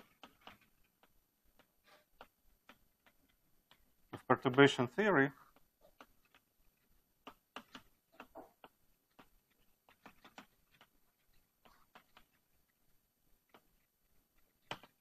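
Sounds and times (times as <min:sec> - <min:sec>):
chalk tapping and scraping on blackboard: 0:00.0 - 0:12.8.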